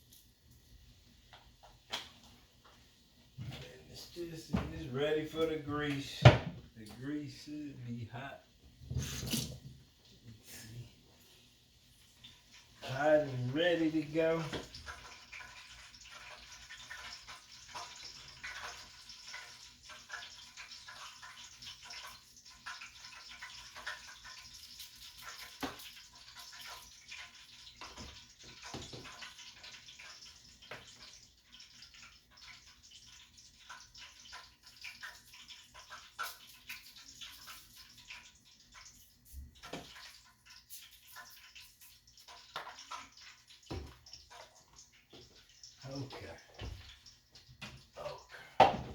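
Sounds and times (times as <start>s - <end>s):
chicken frying in hot grease: 0.0s - 48.9s.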